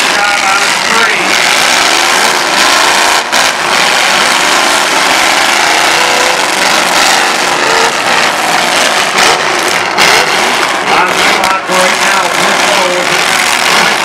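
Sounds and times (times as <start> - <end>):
car engines revving hard: 0.0 - 14.0.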